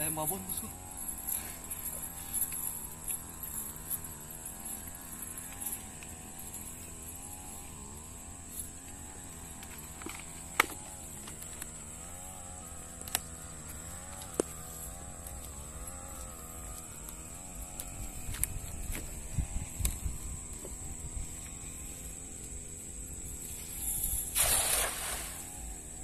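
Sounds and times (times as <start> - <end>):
constant high hiss: 0.0 - 26.0
small engine running: 0.0 - 26.0.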